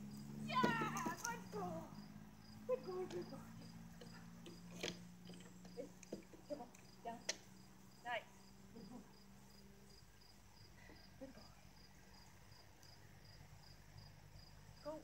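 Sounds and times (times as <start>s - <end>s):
faint crickets chirping: 0.0s - 15.0s.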